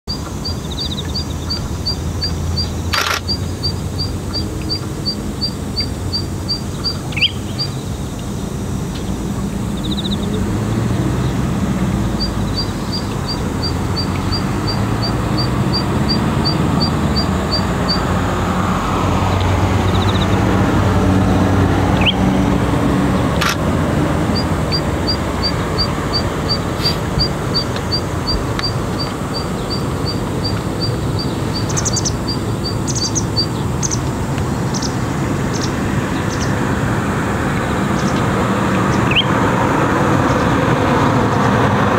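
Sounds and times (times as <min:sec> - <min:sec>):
passing traffic engine rumble: 0:00.1 - 0:41.9.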